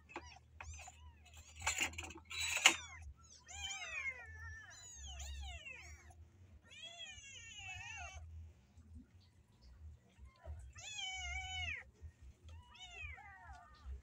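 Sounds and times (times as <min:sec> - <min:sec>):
kittens meowing: 0:00.0 - 0:08.3, 0:10.1 - 0:14.0.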